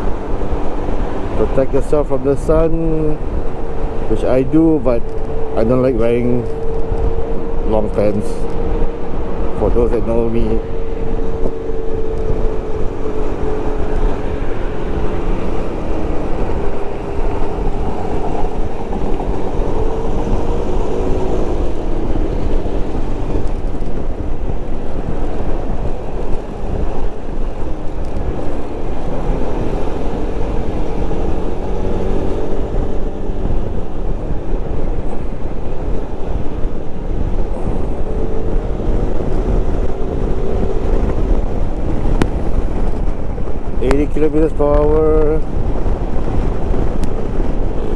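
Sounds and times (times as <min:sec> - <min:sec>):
motorcycle engine: 0:00.0 - 0:47.9
wind buffeting microphone: 0:00.0 - 0:47.9.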